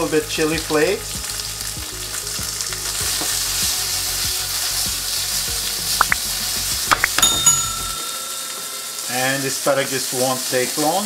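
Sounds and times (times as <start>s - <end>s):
asparagus sizzling in oil: 0.0s - 11.0s.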